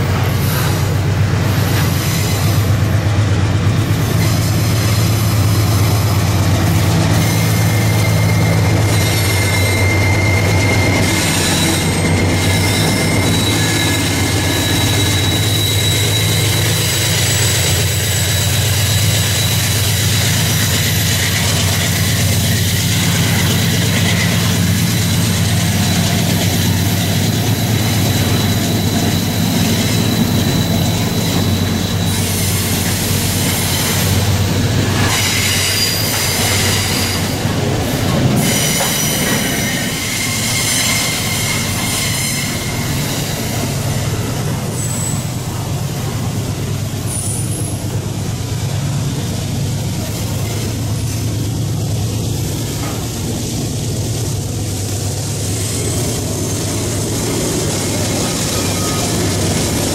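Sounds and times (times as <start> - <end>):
high wheel squeal: 0.0 - 48.2, 54.1 - 59.9
diesel locomotive running: 0.0 - 59.9
wheels rumbling on rails: 0.0 - 59.9.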